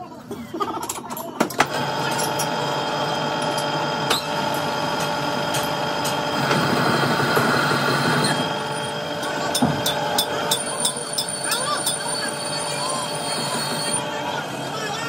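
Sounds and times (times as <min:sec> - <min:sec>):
metalworking machinery whining hum: 0:00.2 - 0:15.0.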